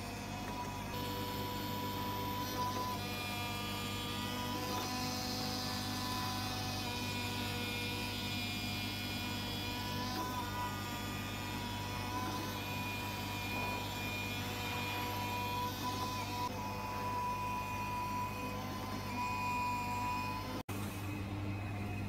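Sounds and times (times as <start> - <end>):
cutting machine droning and whining: 0.0 - 22.0.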